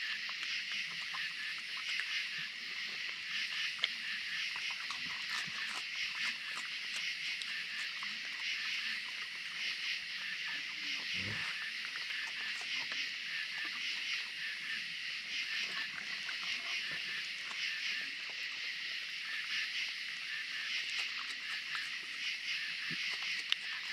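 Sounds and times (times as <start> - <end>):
night insects chorus: 0.0 - 23.9
raccoons chewing food: 0.0 - 23.9.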